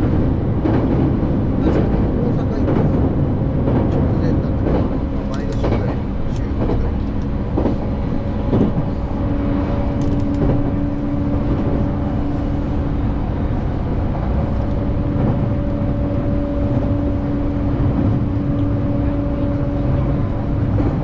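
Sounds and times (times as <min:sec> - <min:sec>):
train motor hum: 0:00.0 - 0:21.0
train wheels rumbling on track: 0:00.0 - 0:21.0.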